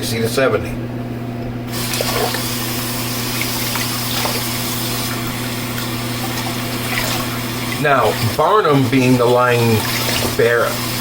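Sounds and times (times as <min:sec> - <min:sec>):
water running from tap: 0:01.7 - 0:11.0.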